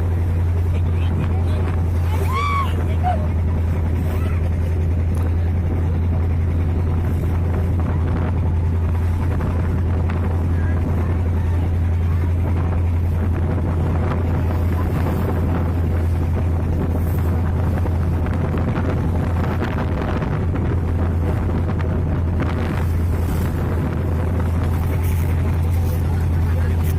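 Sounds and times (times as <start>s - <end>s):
boat engine droning: 0.0s - 26.9s
wind buffeting microphone: 0.0s - 26.9s.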